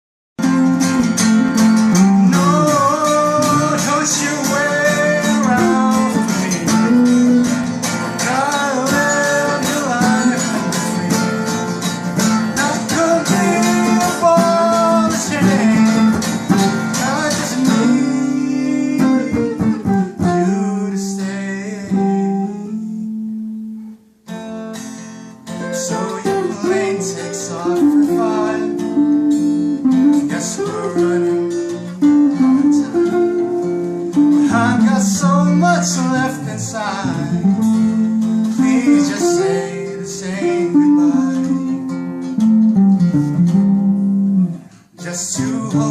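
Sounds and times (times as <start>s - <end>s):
acoustic guitar music: 0.4s - 45.9s.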